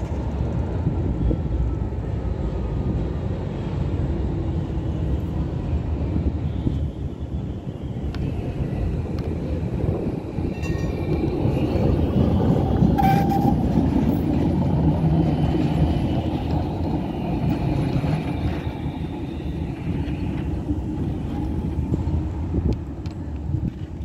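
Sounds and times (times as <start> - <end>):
tram rumbling past on rails: 0.0 - 24.0.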